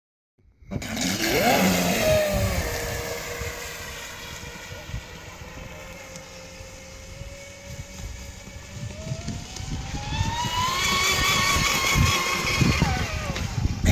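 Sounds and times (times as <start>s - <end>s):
toy speedboat motor whining: 0.7s - 13.9s.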